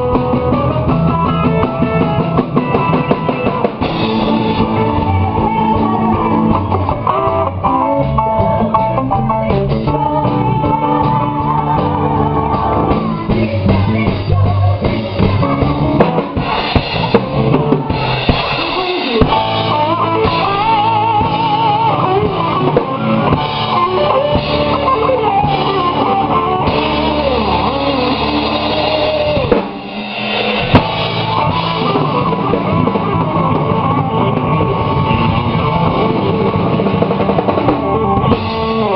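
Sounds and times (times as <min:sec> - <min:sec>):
band playing rock music: 0:00.0 - 0:38.9.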